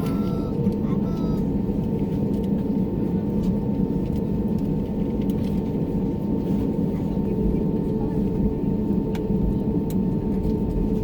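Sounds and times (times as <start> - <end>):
aircraft cabin rumble: 0.0 - 11.0
constant hum: 0.0 - 11.0.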